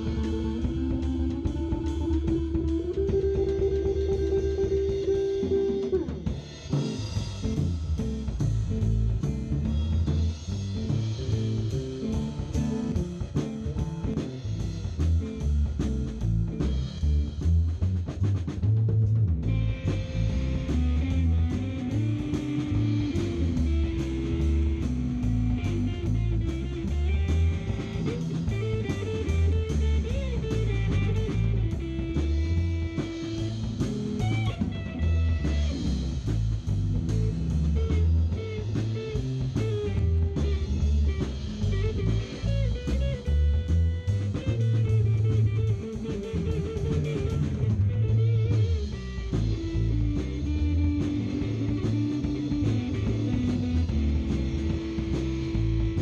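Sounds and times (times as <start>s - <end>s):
drum kit with cymbals: 0.0s - 56.0s
electric bass guitar: 0.0s - 56.0s.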